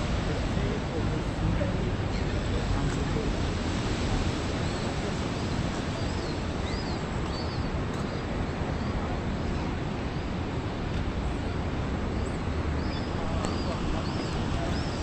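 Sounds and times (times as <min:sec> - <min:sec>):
steady outdoor rushing noise: 0:00.0 - 0:15.0.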